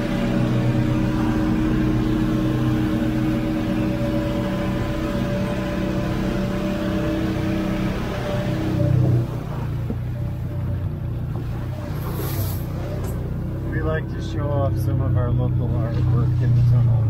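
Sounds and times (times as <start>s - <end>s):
cart rumbling through metal culvert: 0.0s - 17.0s.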